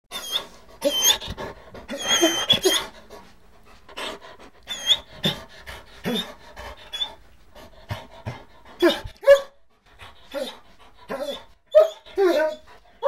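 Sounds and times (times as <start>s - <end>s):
dog panting: 0.1s - 13.0s.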